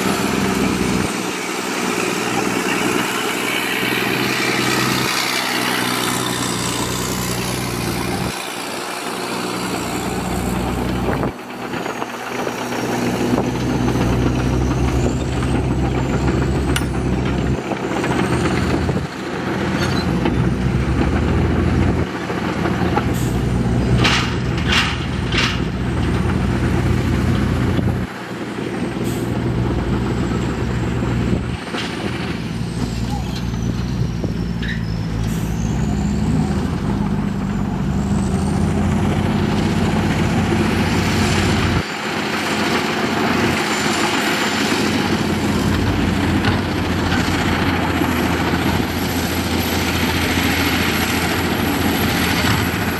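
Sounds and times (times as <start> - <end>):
heavy diesel engines droning: 0.0 - 52.9.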